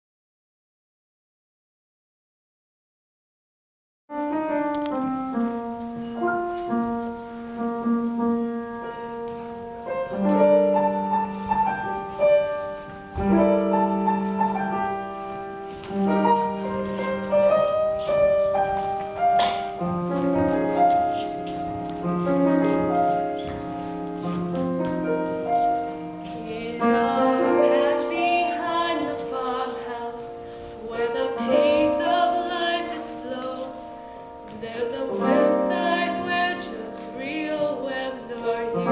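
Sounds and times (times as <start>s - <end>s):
piano with sustained chords: 4.2s - 38.9s.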